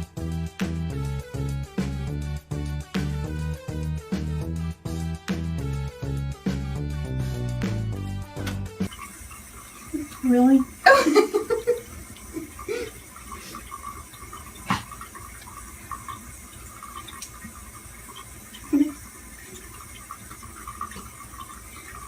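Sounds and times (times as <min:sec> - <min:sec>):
water running from tap: 0:00.0 - 0:22.0.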